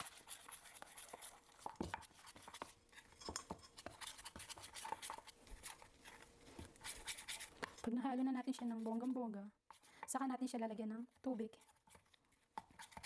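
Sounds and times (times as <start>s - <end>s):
utensil scraping a bowl: 0.0s - 10.1s, 11.2s - 13.0s.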